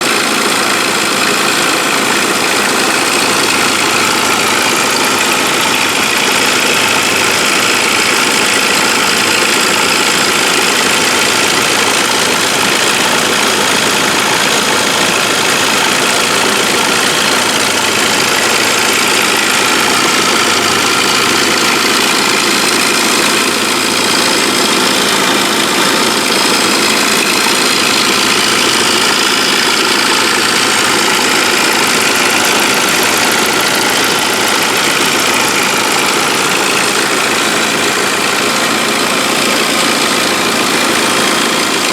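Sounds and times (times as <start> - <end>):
car engine idling: 0.0 - 41.9
engine pulley rattle: 0.0 - 41.9.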